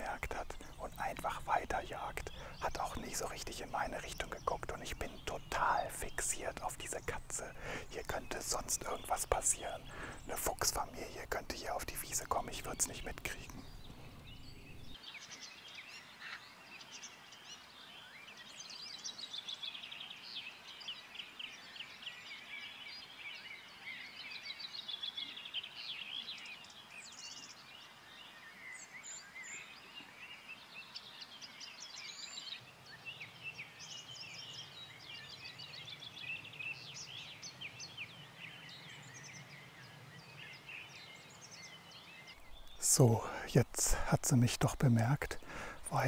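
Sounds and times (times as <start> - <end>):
songbirds chirping and trilling: 0.0 - 46.0.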